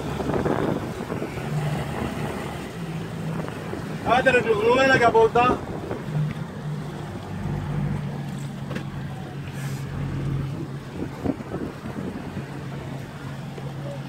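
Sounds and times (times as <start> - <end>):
motorboat engine humming: 0.0 - 14.0
water noise: 0.0 - 14.0
wind: 0.0 - 14.0.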